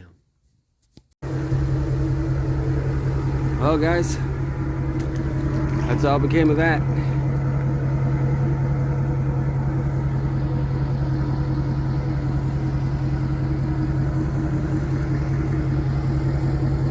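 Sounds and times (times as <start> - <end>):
engine running steadily: 1.2 - 16.9.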